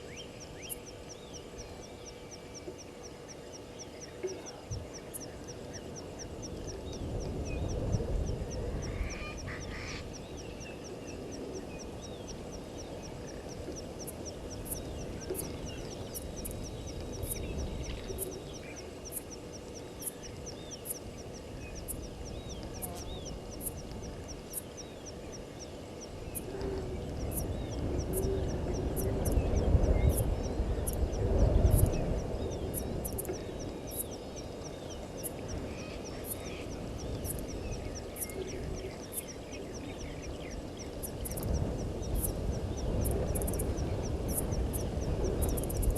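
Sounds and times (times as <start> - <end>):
bird calls: 0.0 - 45.9
insect ticking: 0.0 - 45.9.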